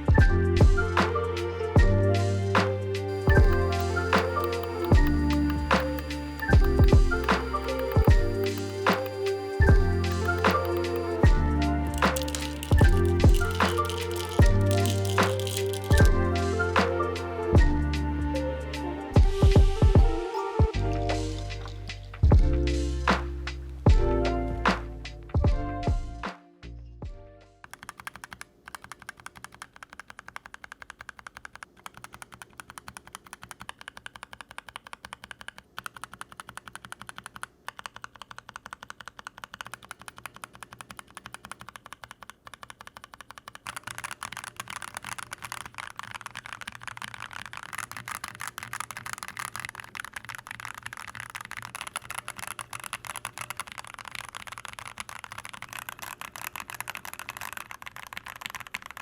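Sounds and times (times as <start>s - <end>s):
mechanical keyboard typing: 2.6s - 17.0s, 19.2s - 22.3s, 27.6s - 59.0s.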